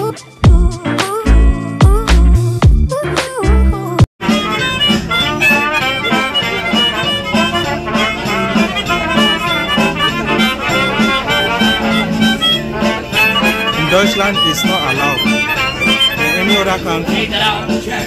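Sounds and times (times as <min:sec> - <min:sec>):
melodic music with steady beat: 0:00.0 - 0:18.0.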